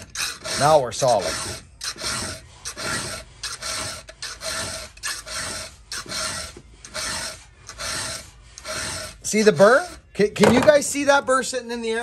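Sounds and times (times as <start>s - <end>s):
file rasping on saw chain: 0.0s - 10.2s.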